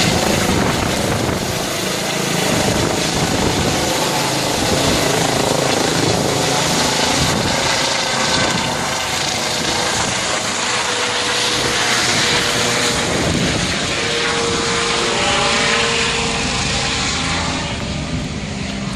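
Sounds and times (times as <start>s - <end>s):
helicopter rotor and engine: 0.0s - 18.9s.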